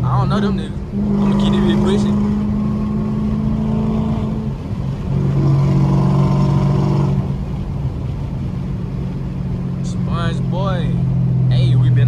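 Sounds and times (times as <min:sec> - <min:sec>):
car exhaust drone while driving: 0:00.0 - 0:12.0.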